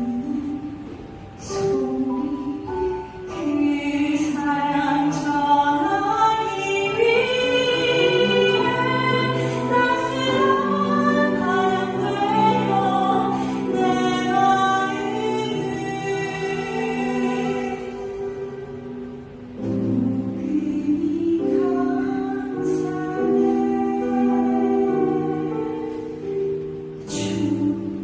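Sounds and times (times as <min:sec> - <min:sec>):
woman singing into microphone: 0:00.0 - 0:28.0.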